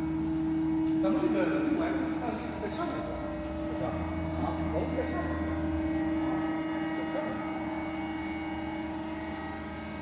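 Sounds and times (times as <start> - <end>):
band saw machine whine: 0.0 - 10.0
deep hum: 0.0 - 10.0.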